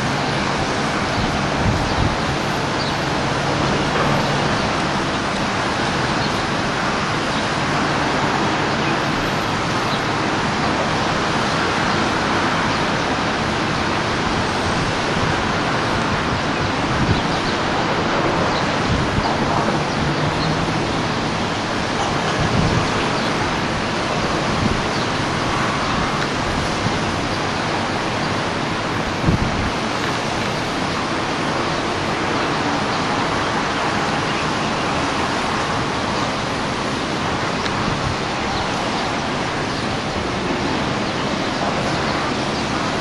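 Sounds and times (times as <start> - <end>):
distant city traffic: 0.0 - 43.0.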